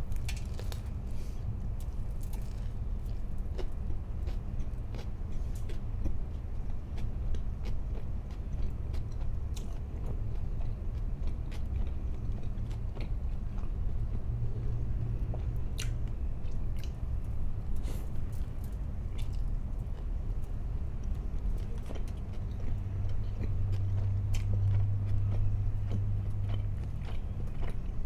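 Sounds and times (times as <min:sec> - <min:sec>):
crunchy chewing of food: 0:00.0 - 0:28.0
low steady hum: 0:00.0 - 0:28.0.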